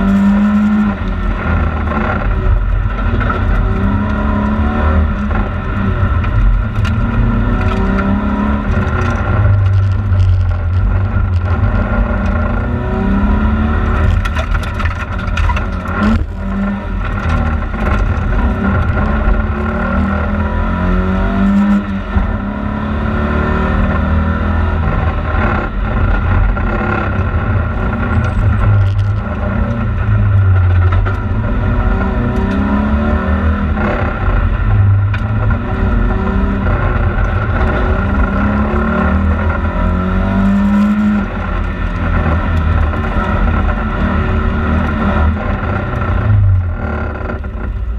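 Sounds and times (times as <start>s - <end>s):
car engine revving: 0.0s - 47.9s
tyre and road noise: 0.0s - 47.9s.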